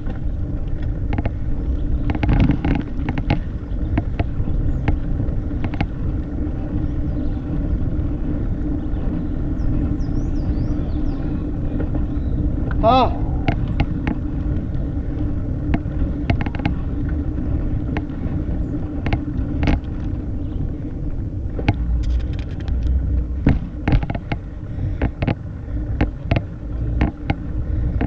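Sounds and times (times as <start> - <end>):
bike clicks and rattles: 0.0 - 28.0
wind and tyre rumble: 0.0 - 28.0.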